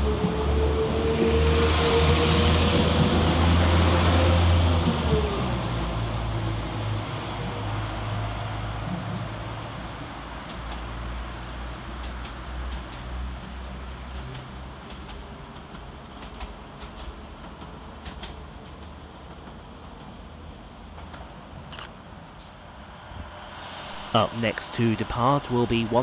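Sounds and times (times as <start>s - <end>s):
diesel train engines rumbling: 0.0s - 26.0s.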